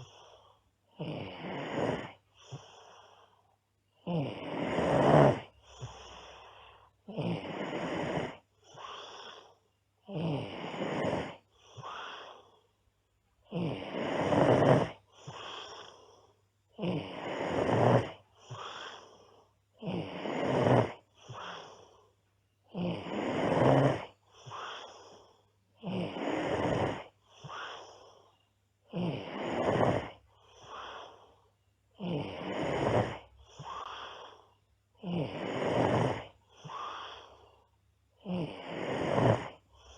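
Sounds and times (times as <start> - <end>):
girl snoring: 0.0 - 3.4, 4.0 - 12.6, 13.4 - 39.9.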